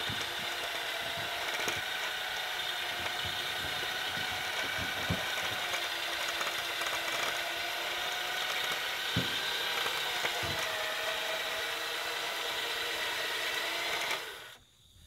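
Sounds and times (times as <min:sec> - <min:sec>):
electric winch whining: 0:00.0 - 0:14.6.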